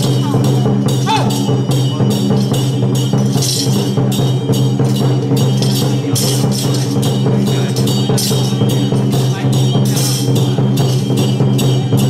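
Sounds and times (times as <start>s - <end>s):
cymbal crashes: 0.0s - 12.0s
gongs and drums ringing: 0.0s - 12.0s.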